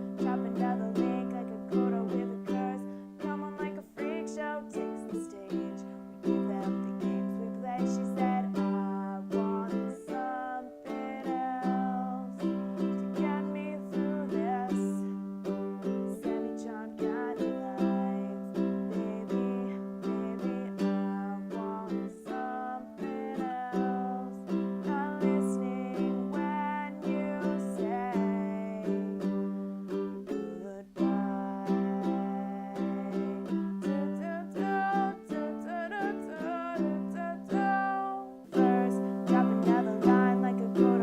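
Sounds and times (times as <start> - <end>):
plucked string melody: 0.0 - 41.0.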